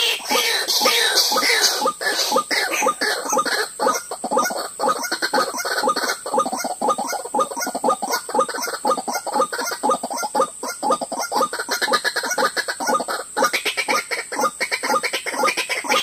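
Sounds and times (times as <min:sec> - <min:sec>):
waterhens clucking calls: 0:00.0 - 0:16.0.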